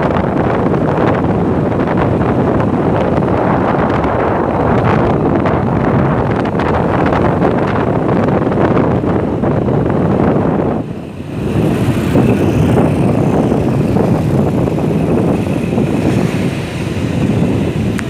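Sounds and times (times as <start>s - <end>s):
motorcycle engine: 0.0s - 18.0s
road noise: 0.0s - 18.0s
wind buffeting microphone: 0.0s - 18.0s.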